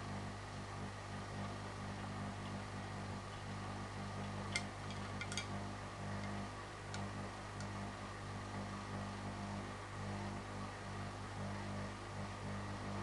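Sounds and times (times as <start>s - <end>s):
washing machine spinning hum: 0.0s - 13.0s.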